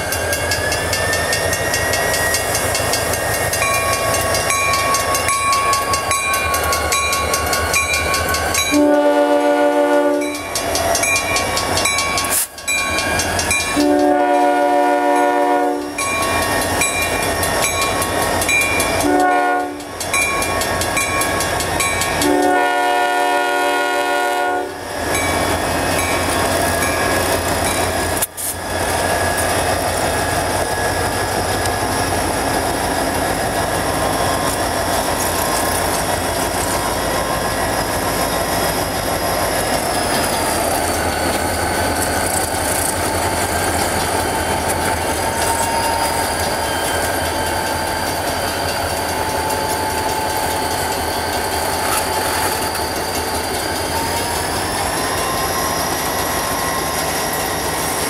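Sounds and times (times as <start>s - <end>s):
train wheels squealing: 0.0s - 22.7s, 24.8s - 58.0s.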